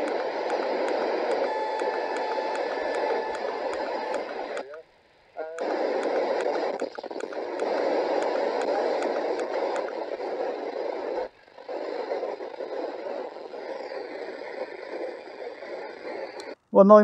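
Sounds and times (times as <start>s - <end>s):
interference ticks: 0.0s - 16.7s
radio static hiss: 0.0s - 17.0s.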